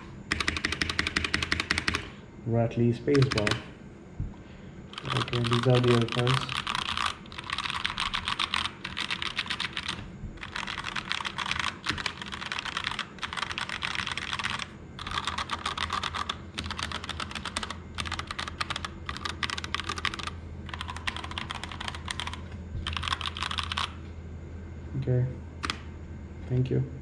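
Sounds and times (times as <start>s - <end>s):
mechanical keyboard typing: 0.0s - 2.1s, 3.1s - 3.7s, 4.9s - 24.0s, 25.6s - 25.8s.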